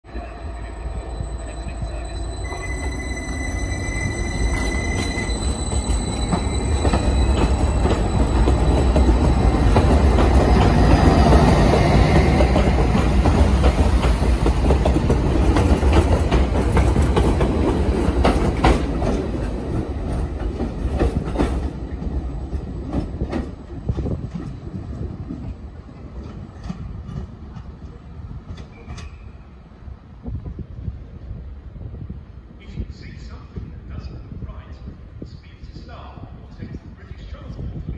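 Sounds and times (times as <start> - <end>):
rumble of wheels on rail: 0.1 - 37.9.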